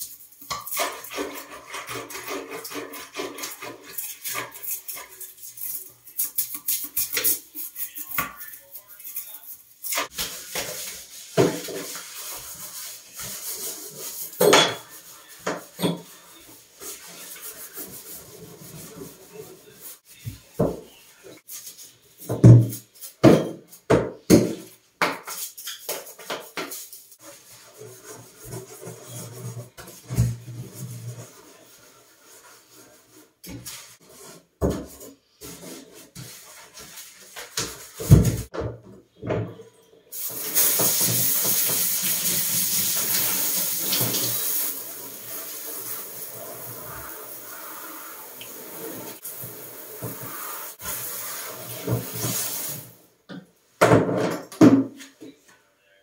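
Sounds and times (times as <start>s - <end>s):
scrub brush scrubbing bathtub: 0.0s - 23.2s, 24.6s - 38.6s, 40.1s - 53.2s.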